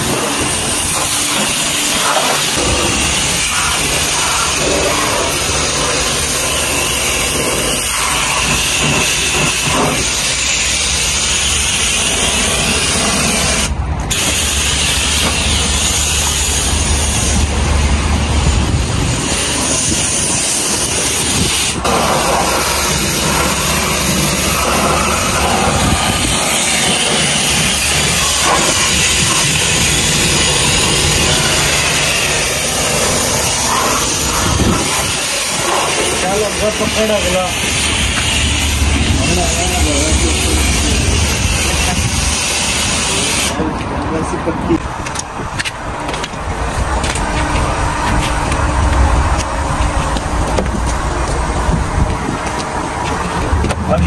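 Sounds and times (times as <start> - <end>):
high-pressure water spray hissing: 0.0 - 43.8.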